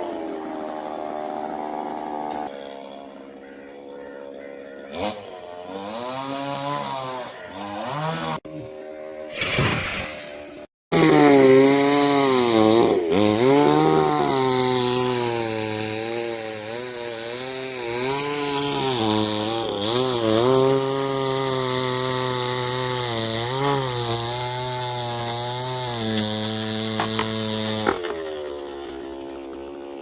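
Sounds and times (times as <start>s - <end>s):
chainsaw cutting wood: 0.0s - 8.6s, 10.9s - 30.0s.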